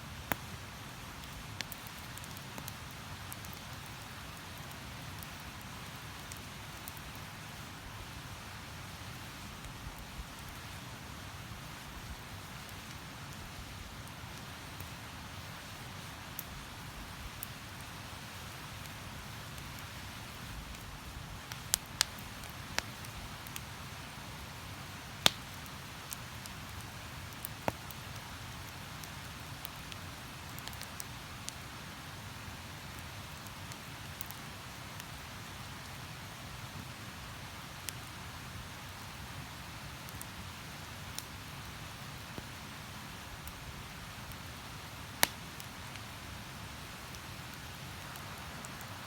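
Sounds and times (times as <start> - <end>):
campfire crackling: 0.0 - 49.0.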